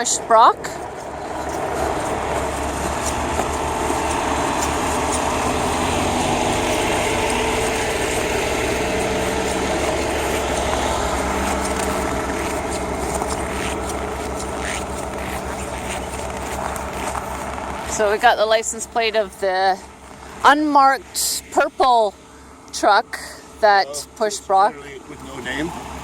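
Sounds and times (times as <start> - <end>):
truck engine running at low revs: 0.0 - 26.0.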